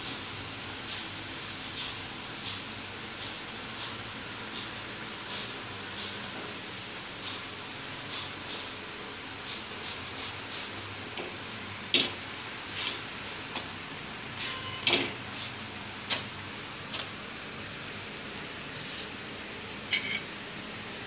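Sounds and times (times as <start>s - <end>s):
steady hiss: 0.0s - 19.8s.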